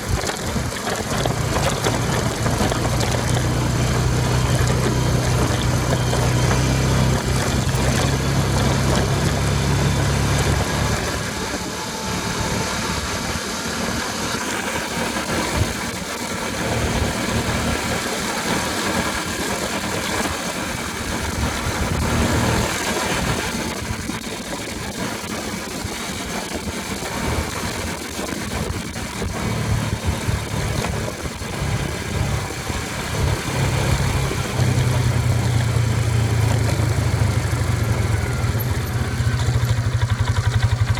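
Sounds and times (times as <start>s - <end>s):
quad bike engine running: 0.0s - 40.9s
road and mechanical noise: 0.0s - 40.9s.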